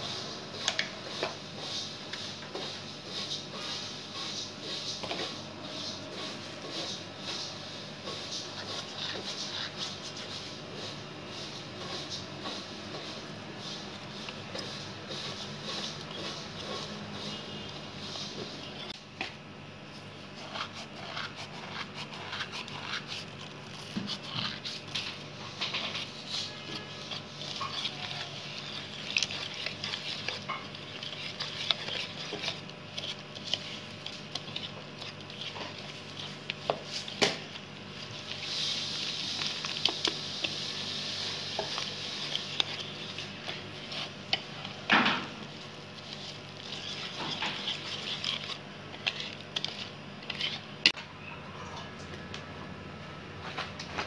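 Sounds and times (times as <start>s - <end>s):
whisk scraping in a bowl: 0.0s - 19.3s, 19.9s - 51.0s.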